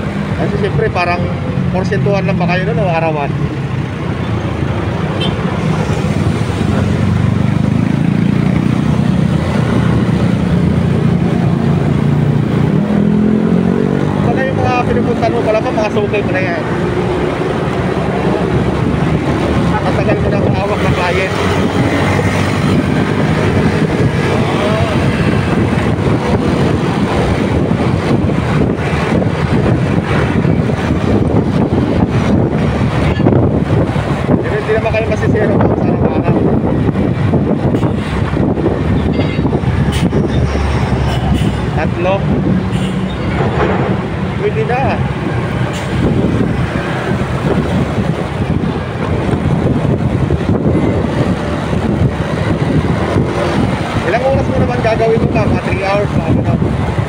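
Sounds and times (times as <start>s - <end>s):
traffic noise: 0.0s - 57.0s
wind noise: 0.0s - 57.0s
motorcycle engine hum: 3.3s - 55.3s.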